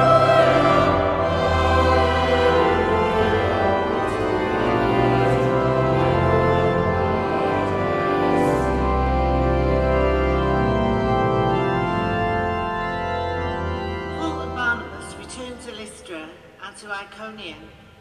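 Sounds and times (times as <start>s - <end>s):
church organ chords: 0.0s - 16.5s.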